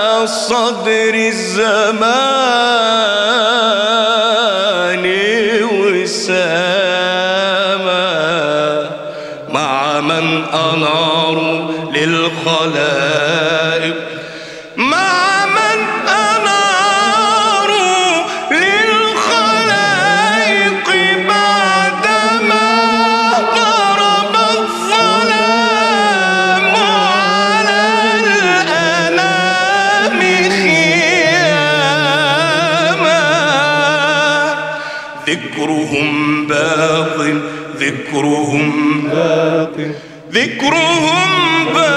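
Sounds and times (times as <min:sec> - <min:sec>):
voices singing devotional chant: 0:00.0 - 0:41.9.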